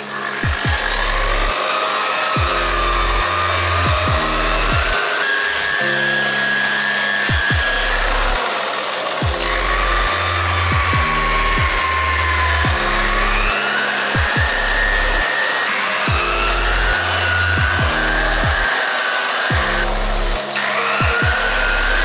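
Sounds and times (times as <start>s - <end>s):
lofi music with kick and bass: 0.0s - 1.6s, 2.3s - 6.4s, 7.2s - 8.5s, 9.1s - 15.3s, 16.0s - 18.8s, 19.5s - 22.0s
electric polisher motor whine: 0.0s - 22.0s.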